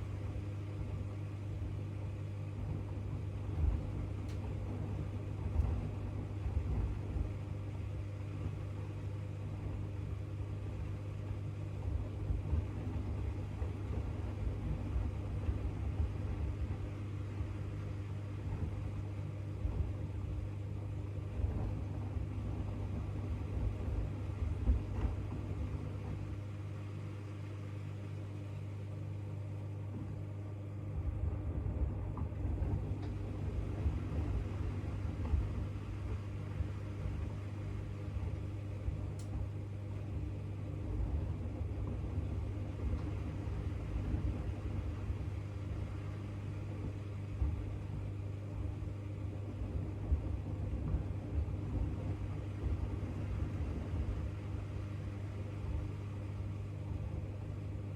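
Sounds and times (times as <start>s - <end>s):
washing machine motor hum: 0.0s - 57.9s
drum tumbling rumble: 0.2s - 57.9s.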